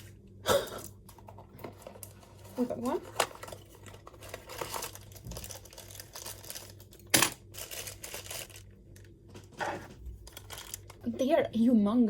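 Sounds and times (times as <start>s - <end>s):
packaging rustling and crinkling: 1.1s - 11.0s.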